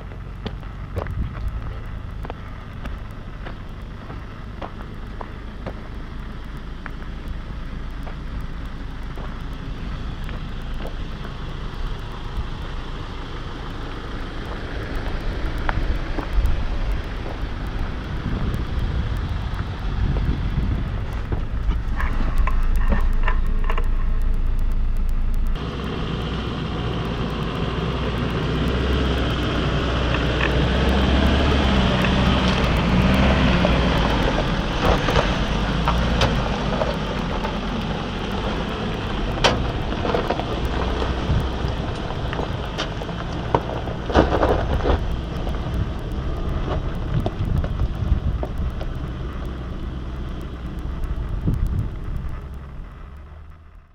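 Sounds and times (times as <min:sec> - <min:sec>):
engine running at low revs: 0:00.0 - 0:53.9.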